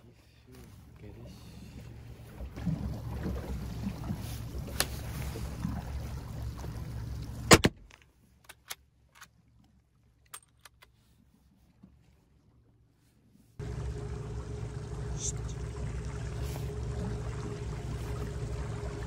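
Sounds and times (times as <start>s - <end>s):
boat rumble: 0.0s - 8.0s, 11.0s - 19.0s.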